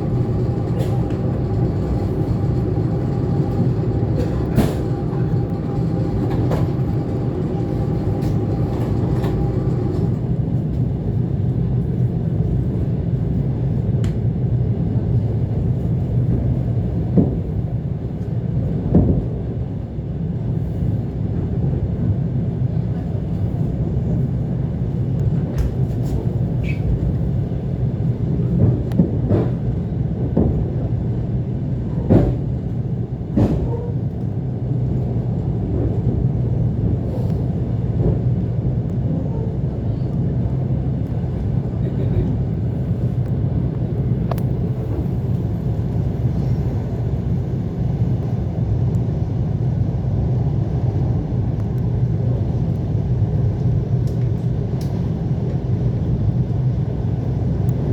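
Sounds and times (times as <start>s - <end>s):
electric train rumbling: 0.0s - 57.9s
train clacks and knocks: 0.0s - 57.9s.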